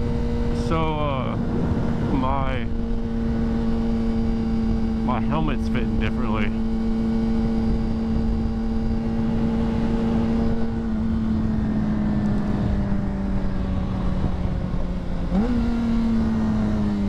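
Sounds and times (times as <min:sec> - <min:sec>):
motorcycle engine running: 0:00.0 - 0:17.0
wind rush on microphone: 0:00.0 - 0:17.0.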